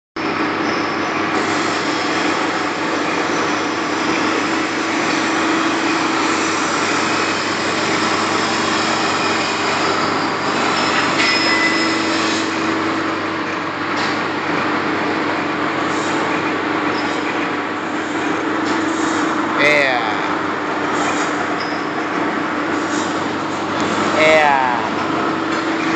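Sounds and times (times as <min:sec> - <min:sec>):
lathe humming and whirring: 0:00.2 - 0:25.9.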